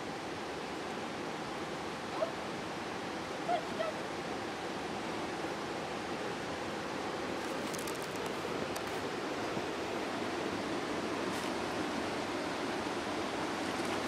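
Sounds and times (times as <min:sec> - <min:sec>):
water flowing over rocks: 0:00.0 - 0:14.0.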